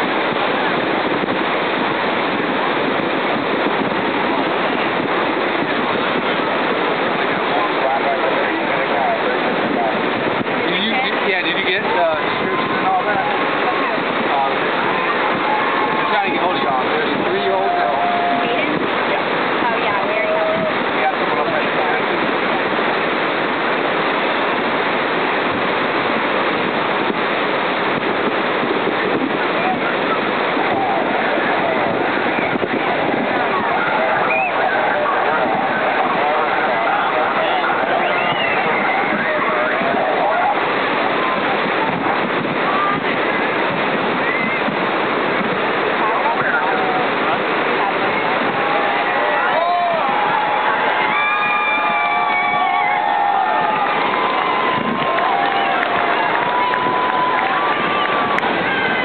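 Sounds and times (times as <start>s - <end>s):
ocean surf breaking: 0.0s - 59.0s
wind buffeting microphone: 0.0s - 59.0s.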